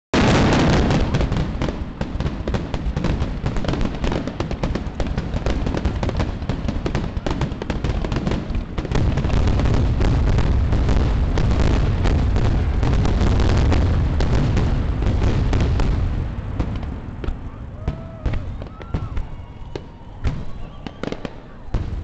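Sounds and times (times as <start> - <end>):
fireworks bangs and crackles: 0.2 - 22.0
heavy fireworks booms: 0.2 - 22.0.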